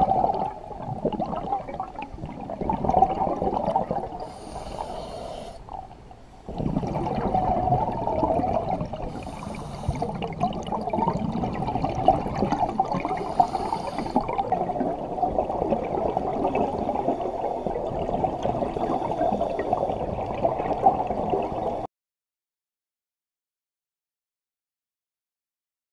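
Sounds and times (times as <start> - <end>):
diver's exhaled bubbles hissing: 0.0 - 5.8, 6.5 - 21.7
muffled underwater rush: 0.0 - 21.9.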